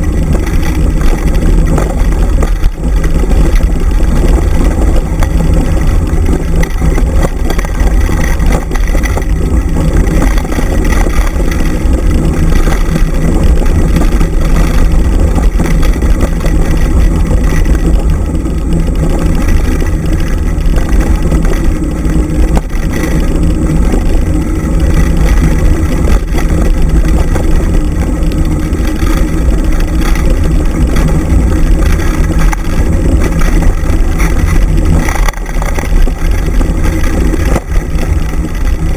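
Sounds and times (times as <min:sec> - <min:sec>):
wheels rolling over dirt trail: 0:00.0 - 0:38.9
wind buffeting microphone: 0:00.0 - 0:38.9.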